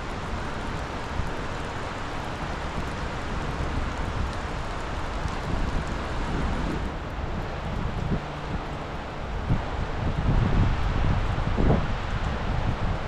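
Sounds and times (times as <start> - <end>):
wind buffeting microphone: 2.3 - 13.0.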